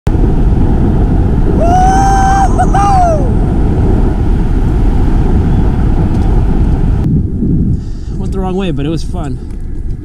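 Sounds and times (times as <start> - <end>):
bike tyre noise on trail: 0.1 - 10.0
wind buffeting microphone: 0.1 - 10.0.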